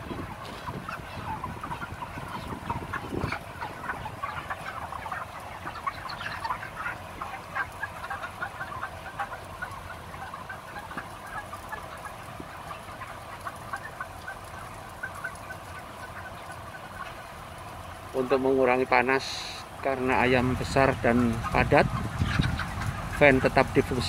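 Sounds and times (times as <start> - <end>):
chickens calling: 0.0 - 24.0.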